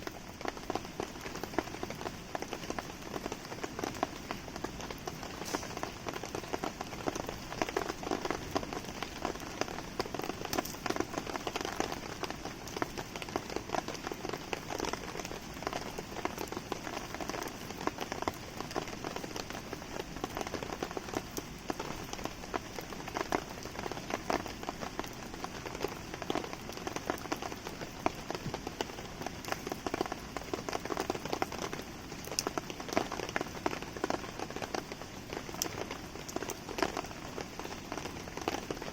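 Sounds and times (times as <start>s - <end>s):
raindrops ticking: 0.0s - 38.9s
steady rain falling: 0.0s - 38.9s.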